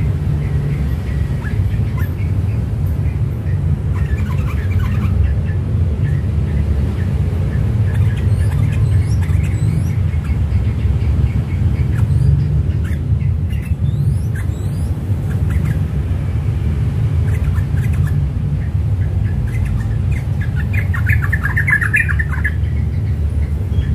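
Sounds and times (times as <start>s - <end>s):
bird chirping and chattering: 0.0s - 23.9s
steady low rumble: 0.0s - 23.9s.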